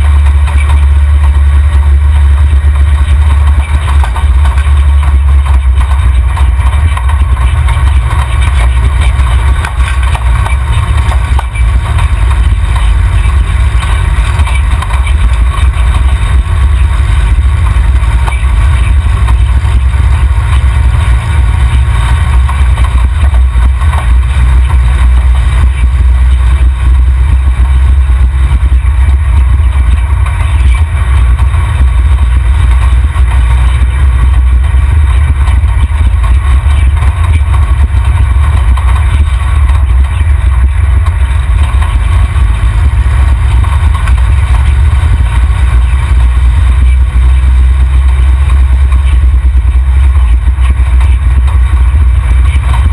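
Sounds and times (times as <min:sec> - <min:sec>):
off-road vehicle engine rumbling: 0:00.0 - 0:52.9.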